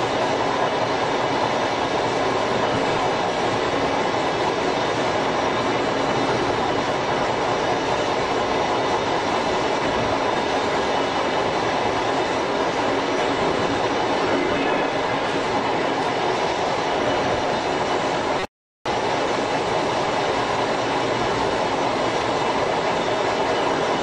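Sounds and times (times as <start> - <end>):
electric train running: 0.0 - 24.0.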